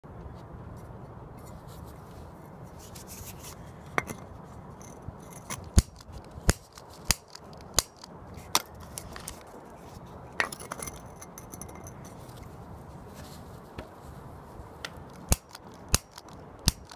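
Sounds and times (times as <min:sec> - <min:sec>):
low outdoor background noise: 0:00.0 - 0:16.9.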